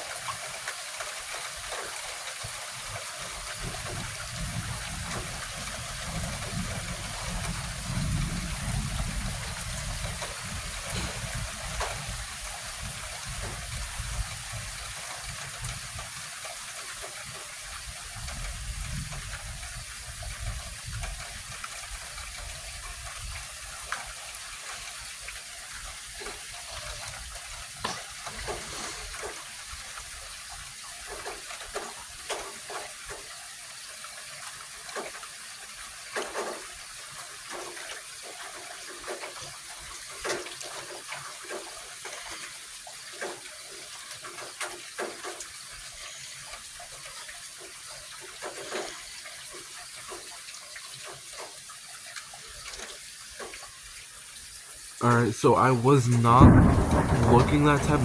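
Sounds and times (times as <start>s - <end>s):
close drips and patters: 0.0s - 58.0s
light rain hiss: 0.0s - 58.0s.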